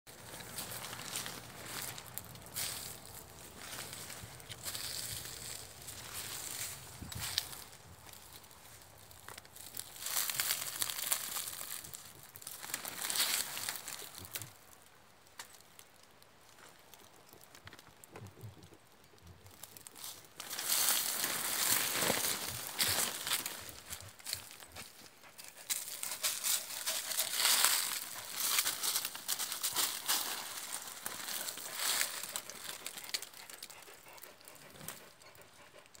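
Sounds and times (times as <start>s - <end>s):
animal digging in dry soil: 0.1s - 14.6s, 19.4s - 35.6s.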